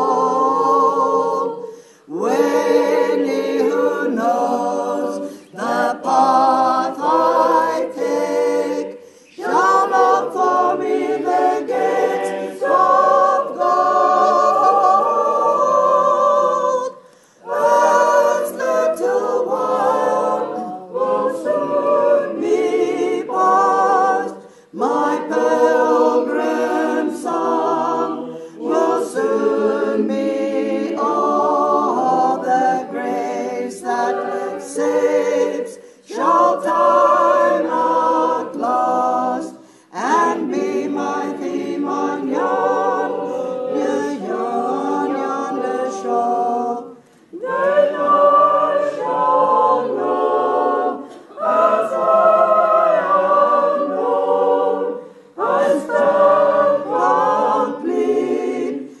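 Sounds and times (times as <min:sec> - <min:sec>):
choir singing unaccompanied: 0:00.0 - 0:59.0.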